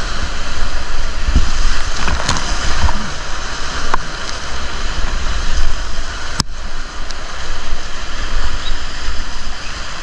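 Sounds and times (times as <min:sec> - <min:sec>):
river water rushing: 0:00.0 - 0:10.0
wind buffeting microphone: 0:00.0 - 0:10.0.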